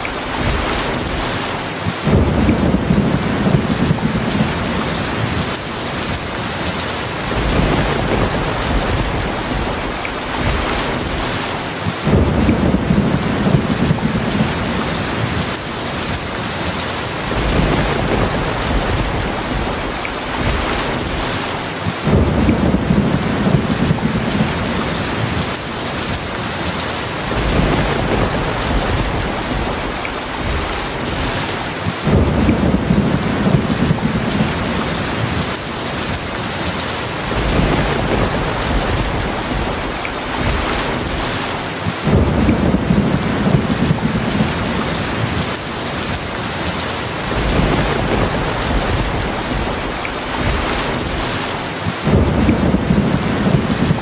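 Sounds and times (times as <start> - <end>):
low rumbles of thunder: 0.0 - 6.2, 7.1 - 16.2, 17.1 - 26.2, 27.1 - 36.2, 37.1 - 46.2, 47.1 - 54.0
heavy rain falling: 0.0 - 54.0.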